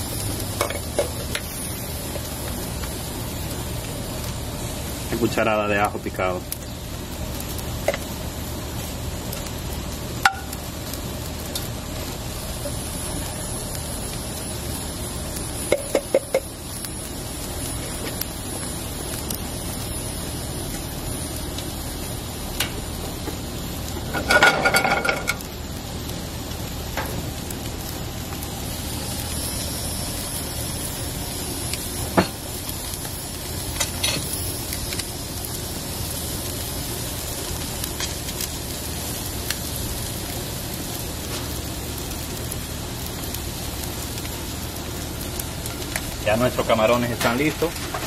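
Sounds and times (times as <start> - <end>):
food sizzling on a grill: 0.0 - 48.0.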